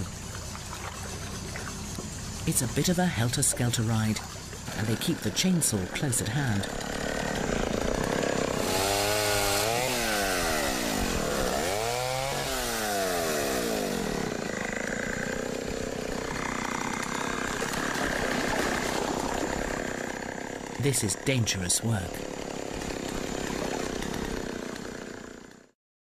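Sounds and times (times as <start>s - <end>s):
chainsaw cutting through log: 0.0s - 25.8s.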